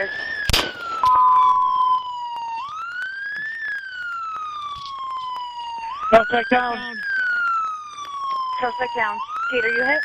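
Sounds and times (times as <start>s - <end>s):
police siren wailing: 0.0s - 10.0s.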